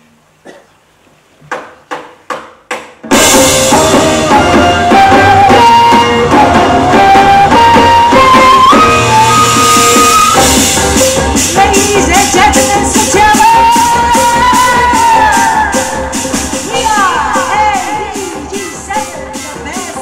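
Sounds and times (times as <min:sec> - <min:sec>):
drum kit: 0:01.4 - 0:20.0
live band playing: 0:03.0 - 0:20.0.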